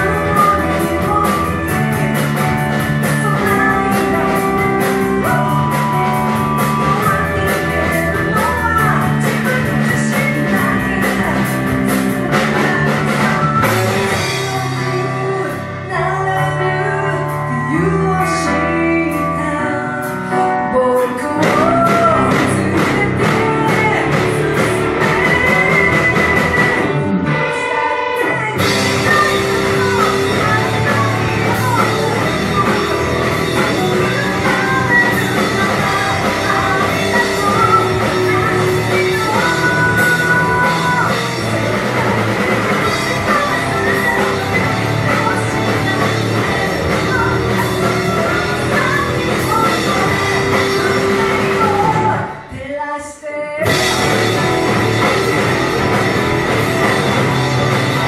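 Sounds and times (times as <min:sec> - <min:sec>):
live rock band playing: 0:00.0 - 0:52.6, 0:53.6 - 0:58.0
piano: 0:00.0 - 0:52.8, 0:53.6 - 0:58.0
person singing: 0:00.0 - 0:58.0.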